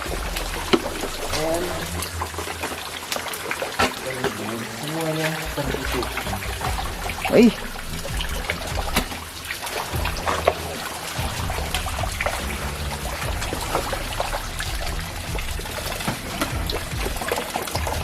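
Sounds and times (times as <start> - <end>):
low rumble: 0.0 - 18.0
water trickling and splashing: 0.0 - 18.0.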